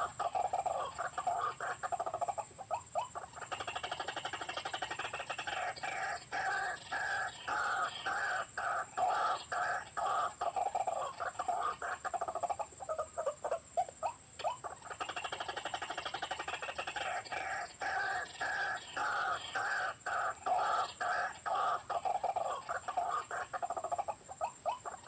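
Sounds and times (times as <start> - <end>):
bird croaking notes: 0.0 - 25.0.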